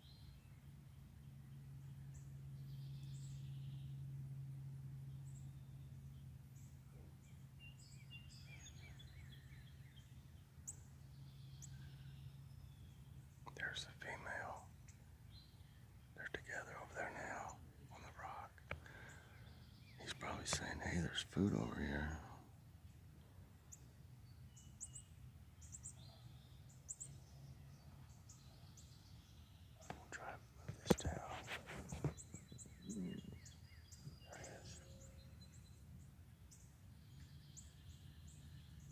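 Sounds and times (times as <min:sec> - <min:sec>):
steady low hum: 0:00.0 - 0:38.7
songbird chirps: 0:00.0 - 0:38.9.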